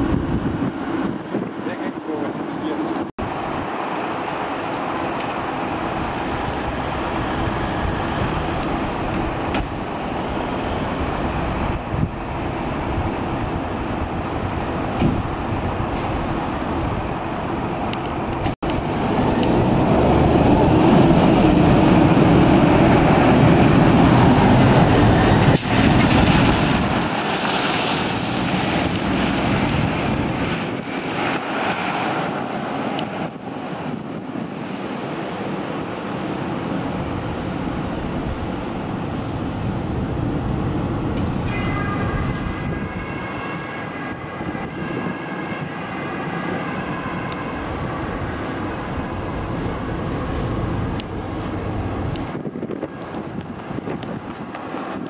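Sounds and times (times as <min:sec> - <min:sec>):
fire engine diesel engine: 0:00.0 - 0:55.0
street traffic: 0:00.0 - 0:55.0.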